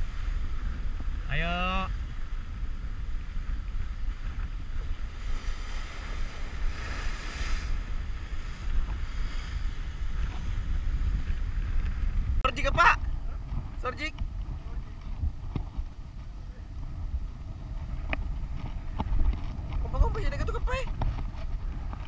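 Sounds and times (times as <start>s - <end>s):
surf washing against rocks: 0.0s - 22.0s
wind buffeting microphone: 0.0s - 22.0s
wave breaking against rocks: 2.2s - 22.0s.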